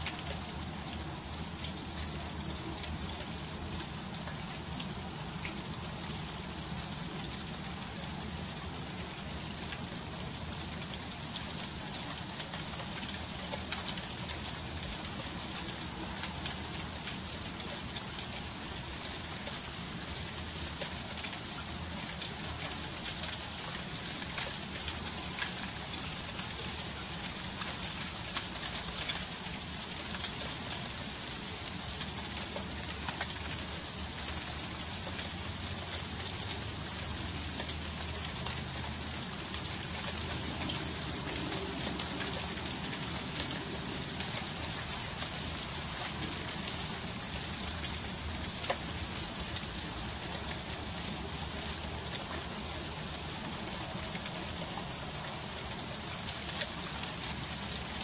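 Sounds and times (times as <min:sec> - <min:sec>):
freezing rain hissing: 0:00.0 - 0:58.0.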